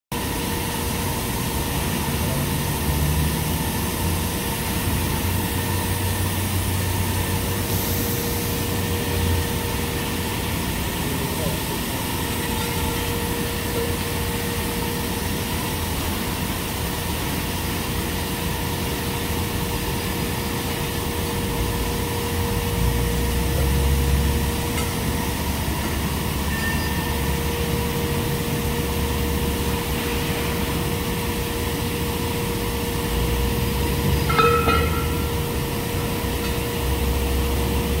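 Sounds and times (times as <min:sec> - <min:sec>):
machinery hum: 0:00.1 - 0:38.0.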